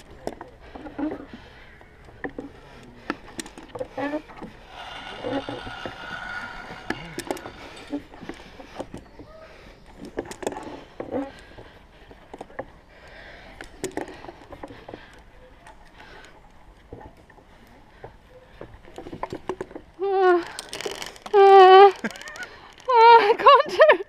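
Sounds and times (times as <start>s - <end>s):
climbing gear clicks and knocks: 0.0s - 23.4s.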